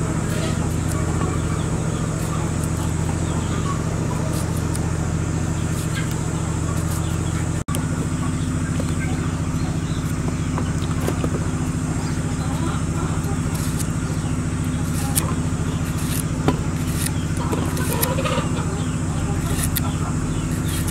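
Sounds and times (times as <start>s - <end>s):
low droning hum: 0.0s - 20.9s.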